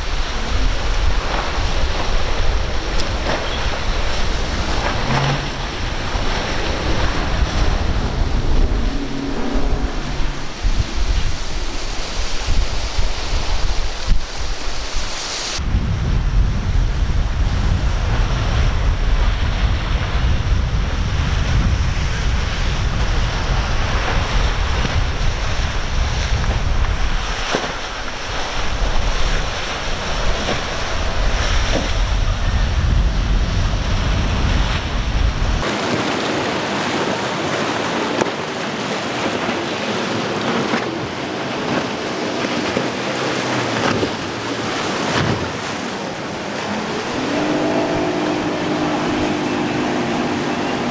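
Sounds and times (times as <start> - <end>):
motorboat engine: 0.0 - 14.0, 16.2 - 50.9
breaking waves: 0.0 - 50.9
wind buffeting microphone: 0.0 - 50.9.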